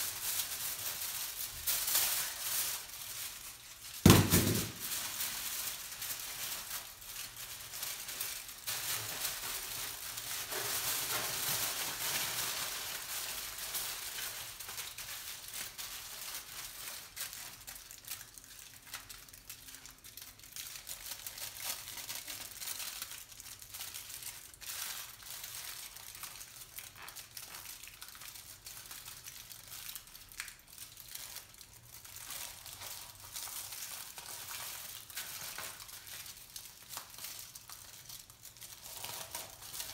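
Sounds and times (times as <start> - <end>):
aluminium foil crinkling: 0.0 - 39.9.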